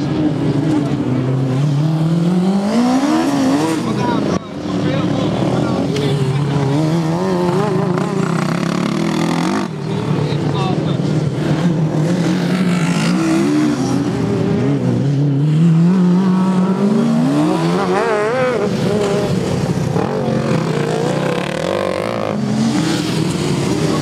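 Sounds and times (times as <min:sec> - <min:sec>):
lawn mower engines racing: 0:00.0 - 0:24.0.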